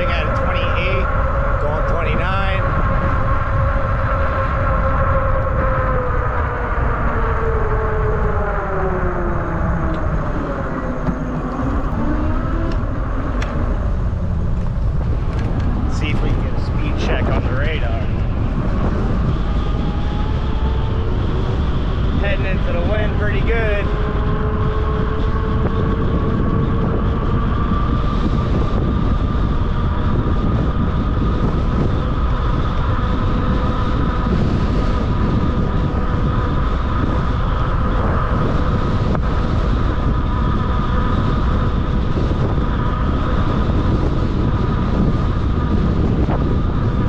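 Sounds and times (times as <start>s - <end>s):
e-bike motor whine: 0.0s - 47.0s
wind rushing over microphone: 0.0s - 47.0s.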